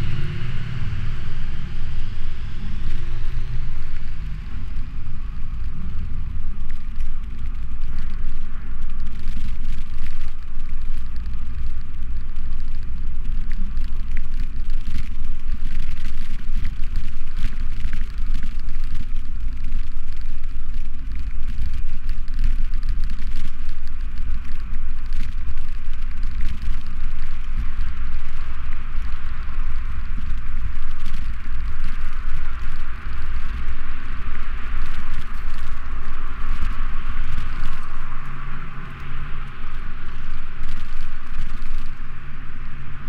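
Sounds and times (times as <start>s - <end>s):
bicycle tyres on road: 0.0s - 43.0s
wind rumble on microphone: 0.0s - 43.0s.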